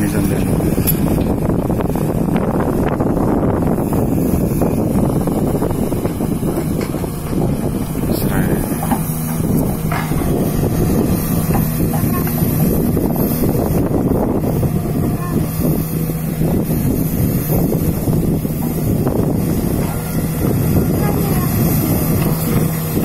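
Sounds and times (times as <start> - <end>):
excavator diesel engine: 0.0 - 23.0
steady hum: 0.0 - 23.0
wind on microphone: 0.0 - 23.0.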